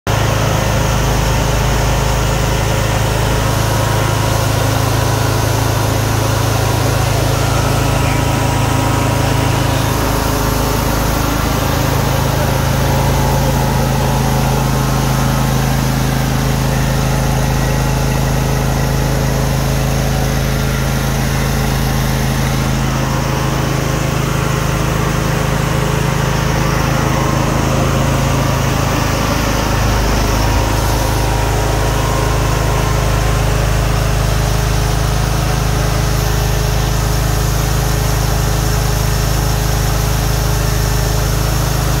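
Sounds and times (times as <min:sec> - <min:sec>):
petrol generator engine running: 0:00.1 - 0:42.0.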